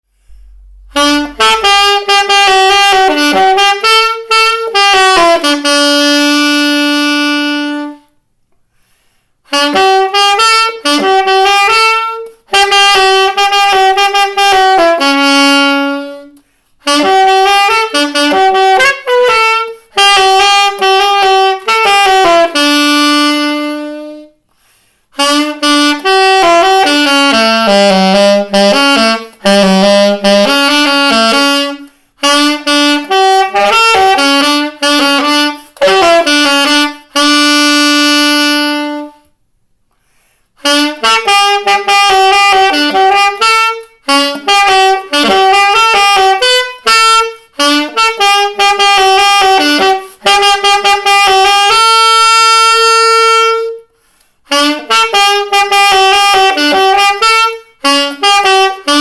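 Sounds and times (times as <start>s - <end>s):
saxophone melody: 0.1s - 8.2s, 9.4s - 39.4s, 40.0s - 59.0s.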